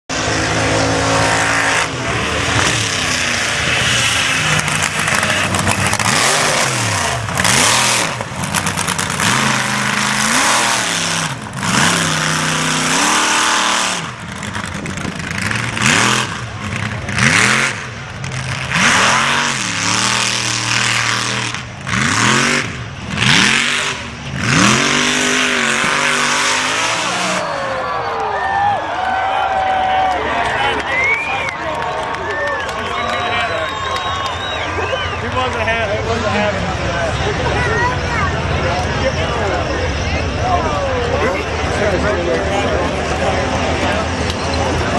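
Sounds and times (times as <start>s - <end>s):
truck engine revving at full throttle: 0.1s - 27.8s, 30.4s - 44.9s.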